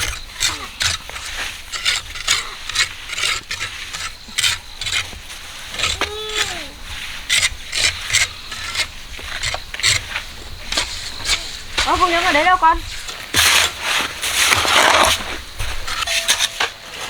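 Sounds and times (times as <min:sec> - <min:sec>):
tool scraping wet concrete: 0:00.0 - 0:17.0.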